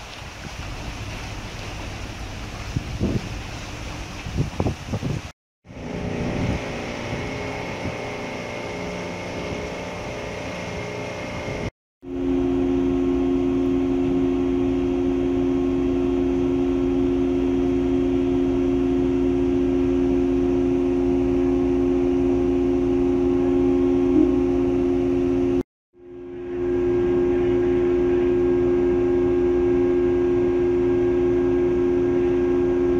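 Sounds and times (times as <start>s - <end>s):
water noise: 0.0s - 32.9s
wind: 0.0s - 32.9s
ship engines droning: 5.7s - 32.9s.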